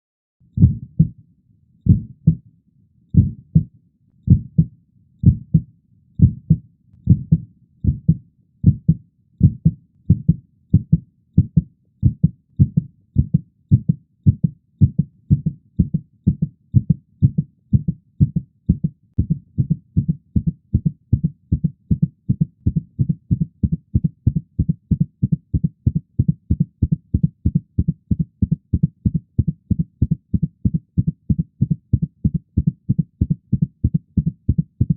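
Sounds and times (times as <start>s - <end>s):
heartbeat speeding up: 0.6s - 1.2s, 1.9s - 2.4s, 3.2s - 3.7s, 4.3s - 34.9s.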